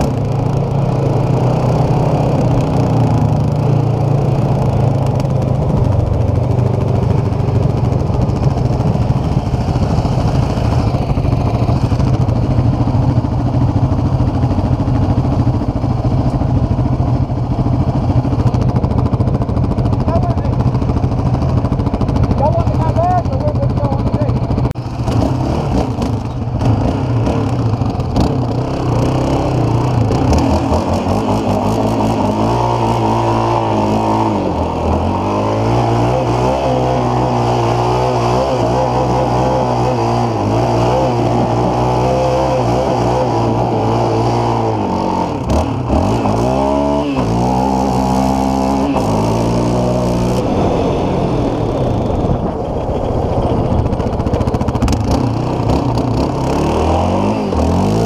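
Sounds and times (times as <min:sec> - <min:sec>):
quad engine revving hard: 0:00.0 - 0:16.3, 0:21.4 - 0:58.0.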